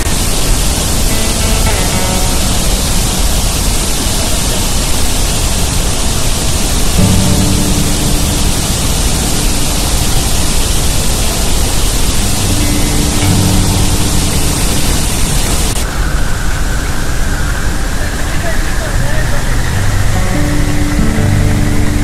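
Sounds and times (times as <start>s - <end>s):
water rushing through spillway: 0.0s - 22.0s.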